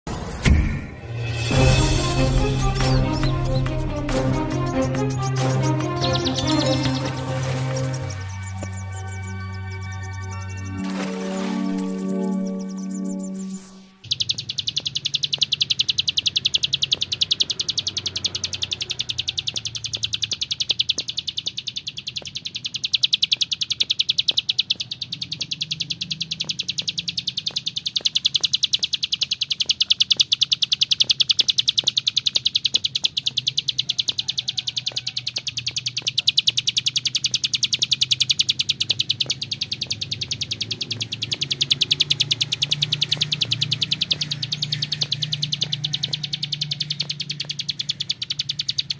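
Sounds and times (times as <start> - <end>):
bird singing rapid trill: 1.3 - 48.9.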